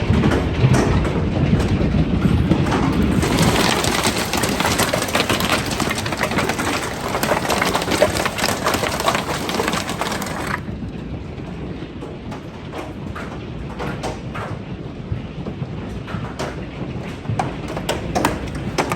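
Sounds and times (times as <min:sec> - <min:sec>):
hailstones pelting down: 0:00.0 - 0:14.4, 0:16.0 - 0:18.9.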